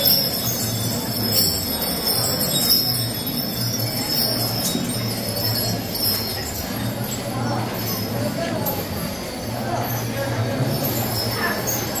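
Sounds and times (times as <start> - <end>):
crowd din: 0.0 - 12.0
small bells jingling: 0.0 - 12.0.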